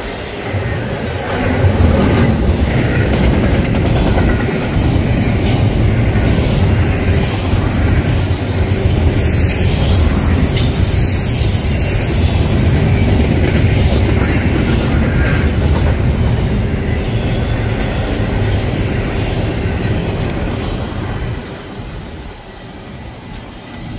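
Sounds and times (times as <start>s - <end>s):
freight train rumbling past: 0.0s - 23.9s.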